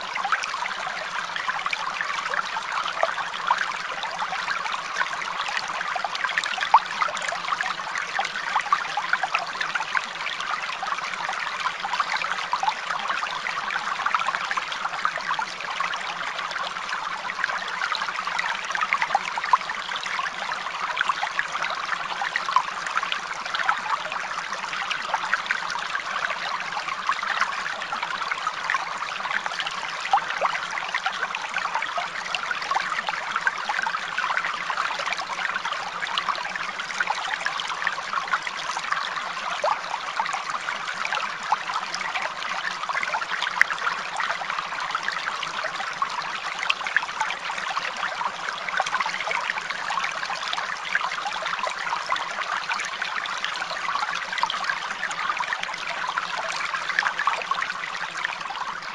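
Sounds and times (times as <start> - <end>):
water trickling and splashing: 0.0 - 58.9.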